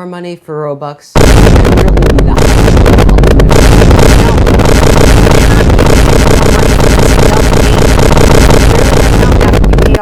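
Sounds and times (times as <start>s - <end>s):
heavily distorted meme sound effect: 1.2s - 10.0s.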